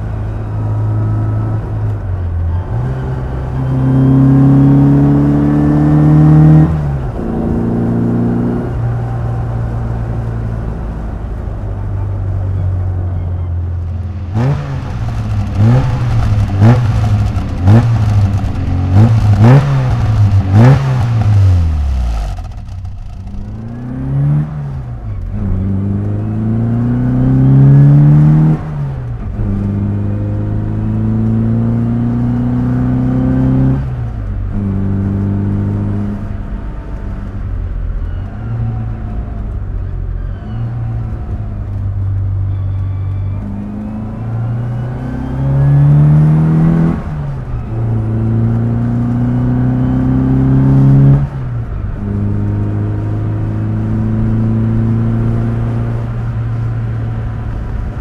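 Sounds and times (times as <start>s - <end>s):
car engine revving through gears: 0.0s - 10.5s, 13.8s - 39.6s, 40.7s - 58.0s.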